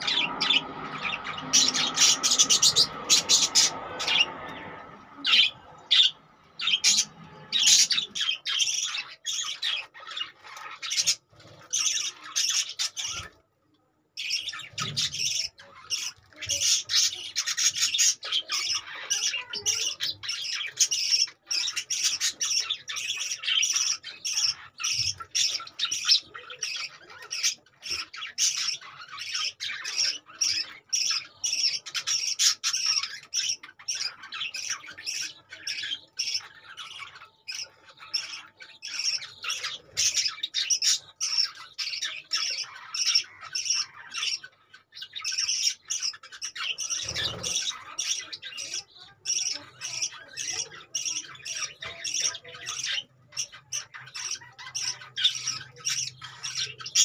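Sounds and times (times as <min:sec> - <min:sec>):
budgerigars chattering: 0:00.0 - 0:13.3, 0:14.2 - 0:57.0.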